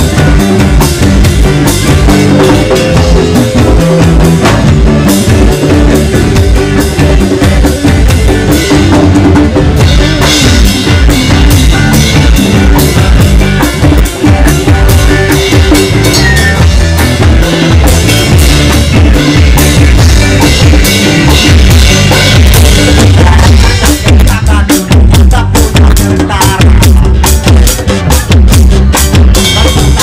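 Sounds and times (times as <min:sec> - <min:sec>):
drum kit: 0:00.0 - 0:30.0
reggae band playing: 0:00.0 - 0:30.0.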